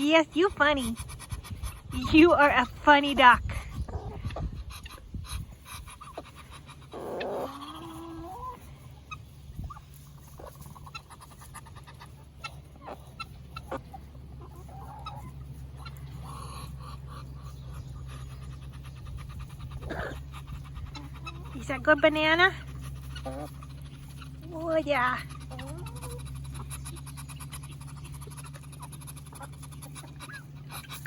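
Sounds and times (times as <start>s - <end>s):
beaks pecking at food: 0.0s - 31.0s
chickens clucking: 0.0s - 31.0s
duck calling: 0.0s - 31.0s
steady low hum: 0.0s - 31.0s.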